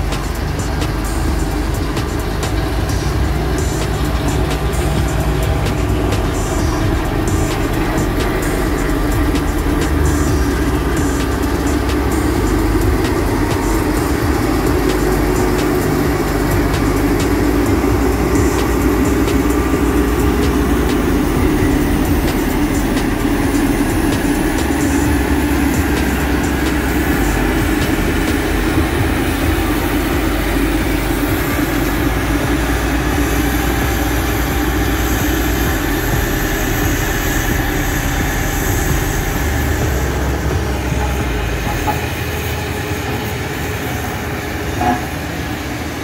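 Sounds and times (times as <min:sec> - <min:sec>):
road roller diesel engine droning: 0:00.0 - 0:46.0.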